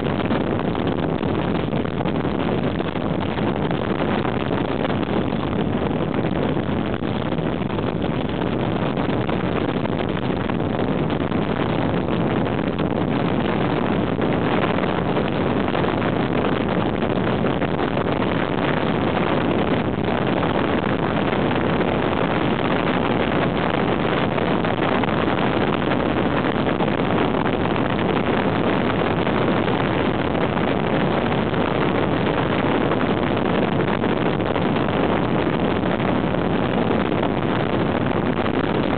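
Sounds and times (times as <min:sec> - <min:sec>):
wind noise on microphone: 0:00.0 - 0:38.9.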